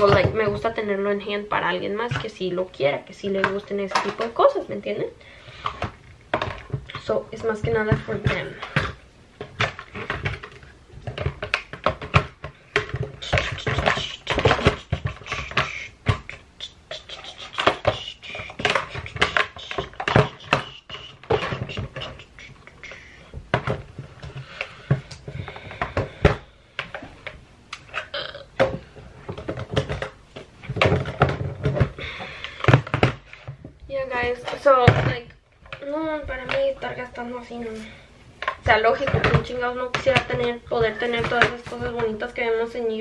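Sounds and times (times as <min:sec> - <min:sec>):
plastic cases clattering: 0:02.0 - 0:04.6, 0:05.4 - 0:16.4, 0:17.0 - 0:37.7, 0:38.4 - 0:42.4.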